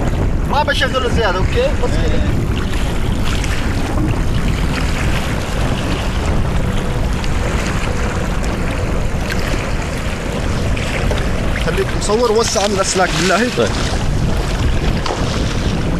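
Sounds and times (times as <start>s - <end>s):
small waves washing against rocks: 0.0s - 15.9s
wind rumbling on microphone: 0.0s - 15.9s.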